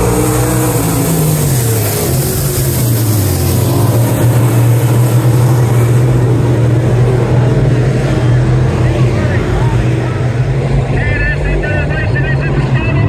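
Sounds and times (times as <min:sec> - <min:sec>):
racing car engines: 0:00.0 - 0:13.0.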